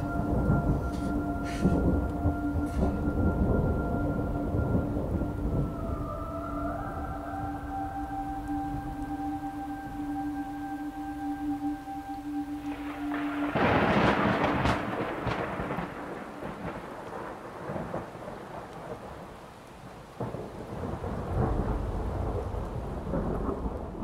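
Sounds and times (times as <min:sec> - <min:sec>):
rain hiss: 0:00.0 - 0:24.0
thunder clap and rumble: 0:00.0 - 0:24.0.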